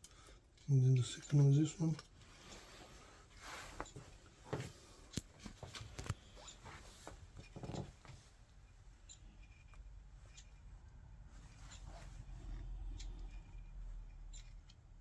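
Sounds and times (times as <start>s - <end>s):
rustling of hands with wires: 0.0s - 15.0s.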